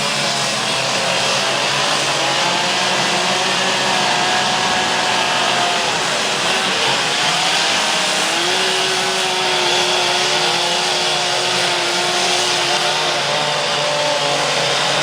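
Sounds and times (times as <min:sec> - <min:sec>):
chainsaws revving: 0:00.0 - 0:15.0.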